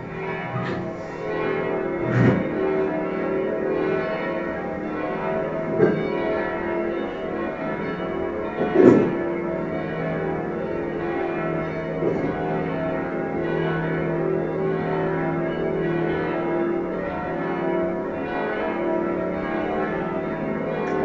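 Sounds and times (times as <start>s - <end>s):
church bells ringing a peal: 0.0s - 21.0s.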